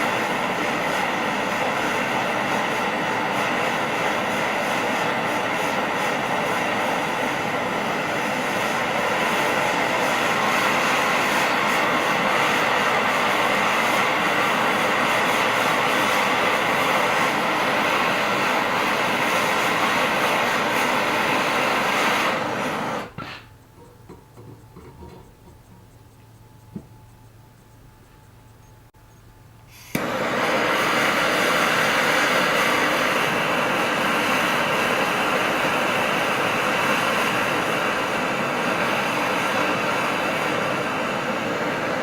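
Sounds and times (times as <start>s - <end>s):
torch flame roaring hiss: 0.0s - 23.6s, 29.7s - 42.0s.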